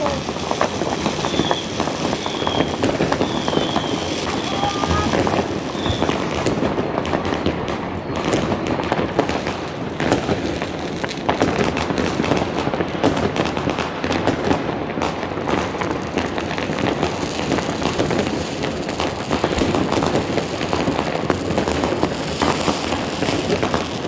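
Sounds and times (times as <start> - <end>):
fireworks and firecrackers crackling: 0.0 - 24.0.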